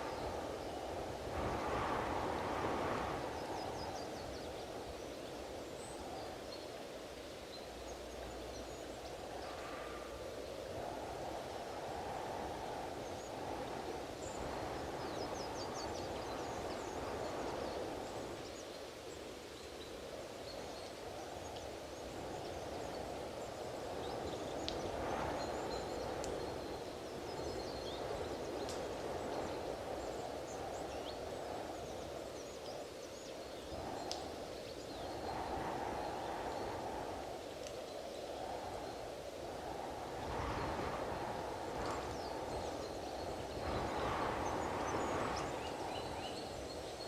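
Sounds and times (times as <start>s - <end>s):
strong gusting wind: 0.0s - 18.6s, 20.1s - 47.0s.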